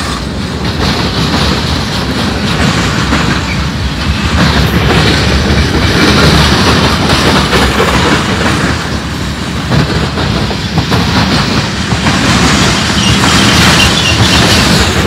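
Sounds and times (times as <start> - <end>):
freight train cars rolling past: 0.0 - 15.0
wheels clicking and clattering: 0.5 - 15.0.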